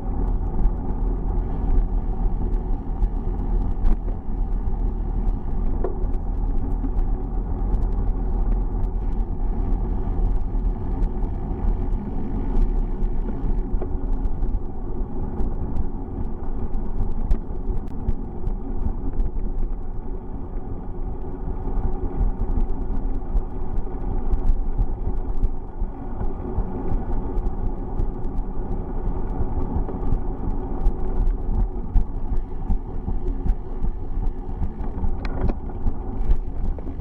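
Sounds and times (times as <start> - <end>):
bicycle riding rumble: 0.0 - 37.0
tyre and road noise: 0.0 - 37.0
wind buffeting microphone: 0.0 - 37.0.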